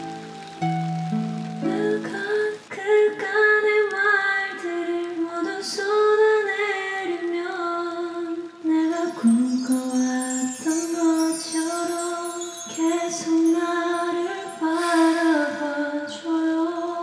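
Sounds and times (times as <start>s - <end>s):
woman singing in echoing bathroom: 1.6s - 17.0s.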